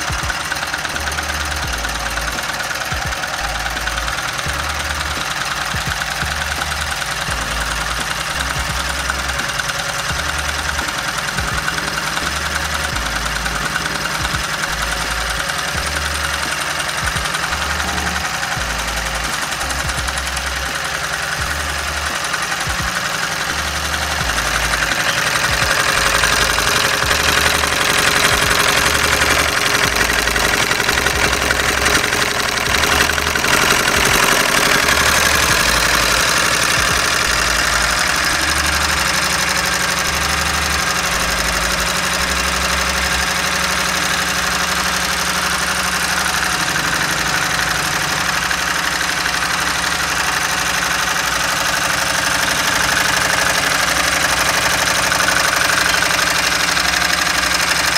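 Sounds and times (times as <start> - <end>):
engine hissing: 0.0 - 57.9.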